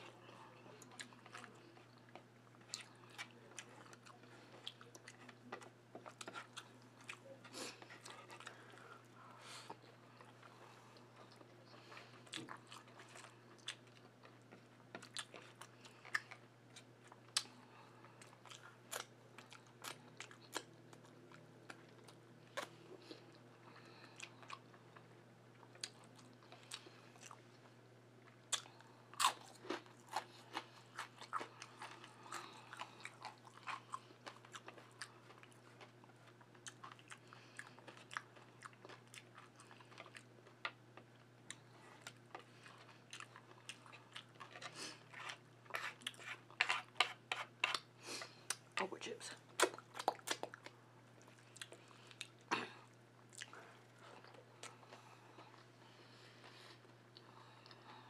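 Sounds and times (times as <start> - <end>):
chewing crunchy chips: 0.0 - 9.0, 9.6 - 48.8, 49.4 - 58.0.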